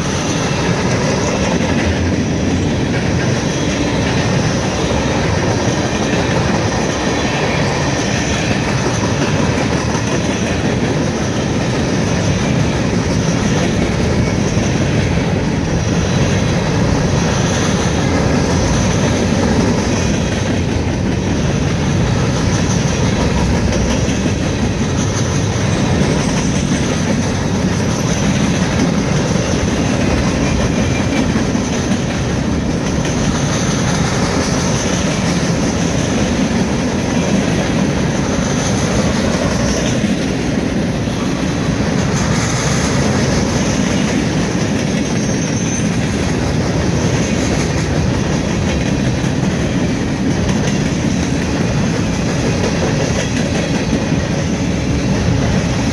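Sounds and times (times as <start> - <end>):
freight train wheels on rails: 0.0 - 55.9.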